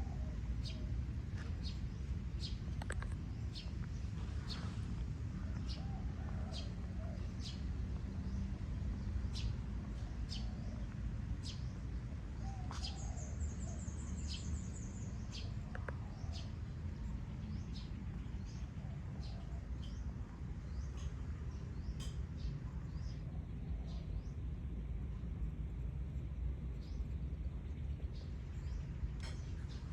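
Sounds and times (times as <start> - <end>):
low background rumble: 0.0 - 29.9.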